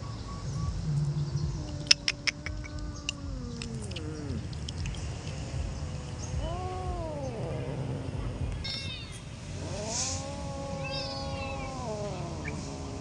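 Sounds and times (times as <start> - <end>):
steady low rumble: 0.0 - 13.0
cat meowing: 0.8 - 5.0, 6.3 - 13.0.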